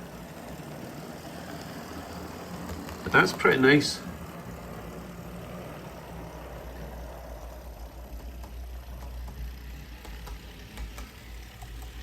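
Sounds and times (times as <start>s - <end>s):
model train motor whirring: 0.0s - 12.0s
wheels on rails: 0.0s - 12.0s.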